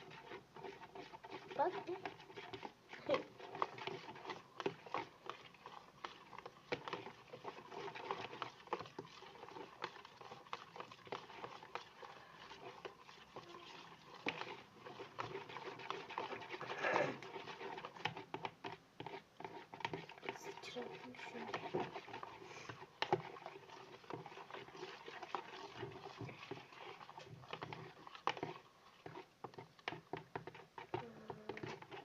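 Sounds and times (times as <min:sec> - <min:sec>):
spoon stirring slime: 0:00.0 - 0:32.0.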